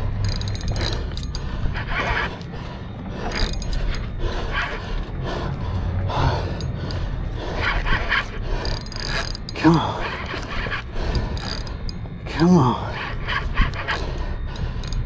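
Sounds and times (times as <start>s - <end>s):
fishing reel gears whirring: 0.0s - 15.0s
low steady rumble: 0.0s - 15.0s.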